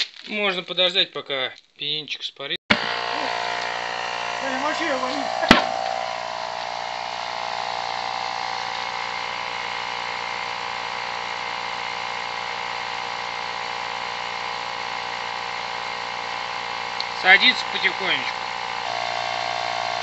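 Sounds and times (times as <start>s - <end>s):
air compressor running: 2.7s - 20.0s.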